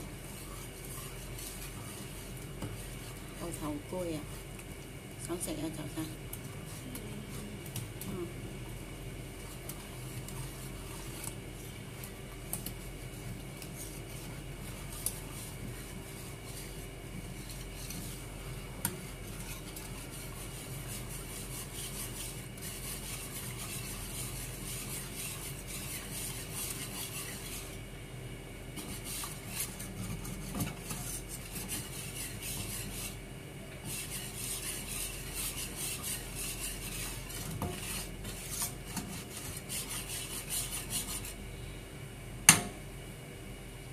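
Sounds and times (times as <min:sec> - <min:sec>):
wire whisk scraping metal bowl: 0:00.0 - 0:08.3, 0:09.4 - 0:27.8, 0:28.8 - 0:33.2, 0:33.8 - 0:41.4.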